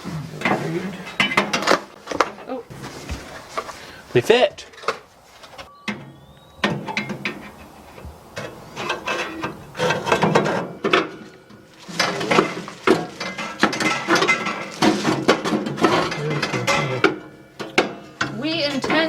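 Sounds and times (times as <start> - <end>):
metal grill parts clattering: 0.0 - 2.8, 4.6 - 19.0.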